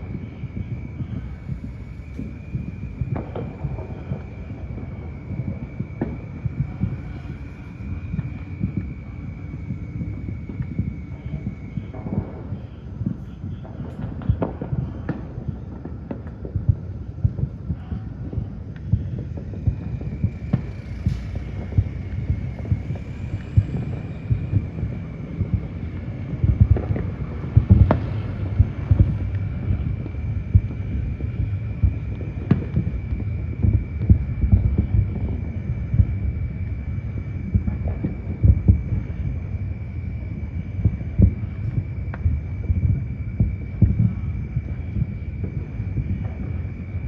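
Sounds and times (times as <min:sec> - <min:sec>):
fireworks booms and bangs: 0:00.0 - 0:47.0.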